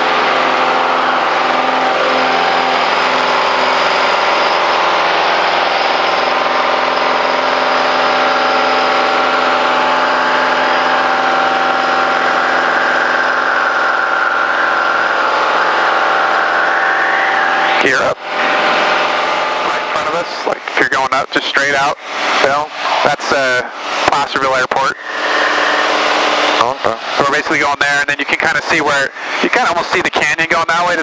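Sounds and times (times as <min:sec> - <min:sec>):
aircraft engine and propeller: 0:00.0 - 0:31.0.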